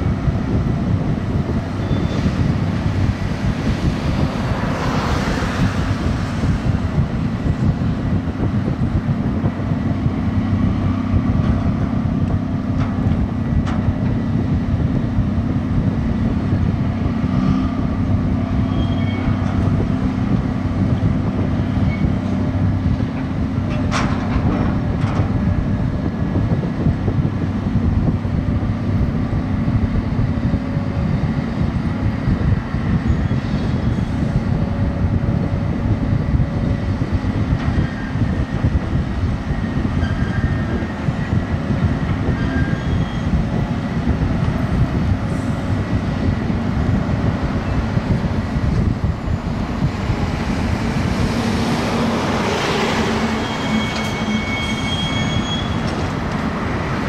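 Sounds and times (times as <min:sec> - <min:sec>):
crane engine rumbling: 0:00.0 - 0:57.0.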